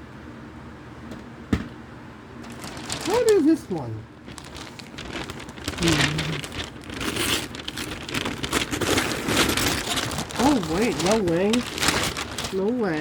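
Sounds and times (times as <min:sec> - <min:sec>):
packaging rustling and crinkling: 0:02.4 - 0:13.0.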